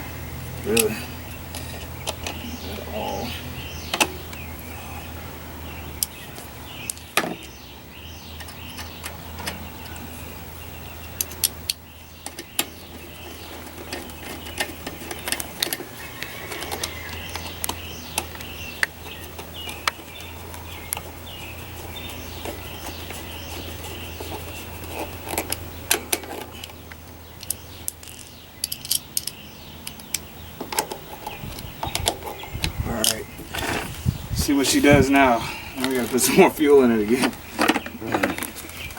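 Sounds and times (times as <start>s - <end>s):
birds chirping faintly: 0.0s - 38.9s
steady low hum: 0.0s - 38.9s.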